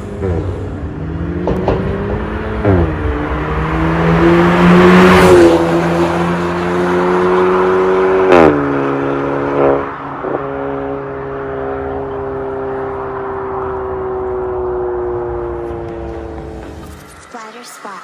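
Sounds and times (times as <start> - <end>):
car engine pulling under load: 0.0 - 17.4.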